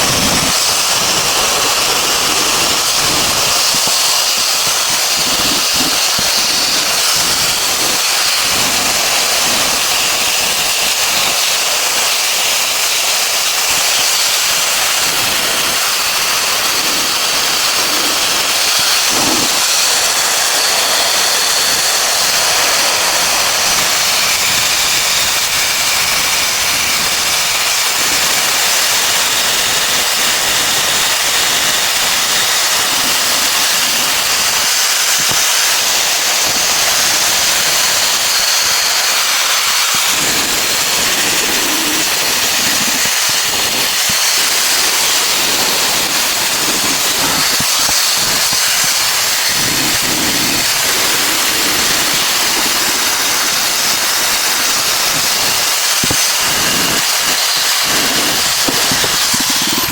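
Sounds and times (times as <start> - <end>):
steady loud hiss: 0.0 - 59.9.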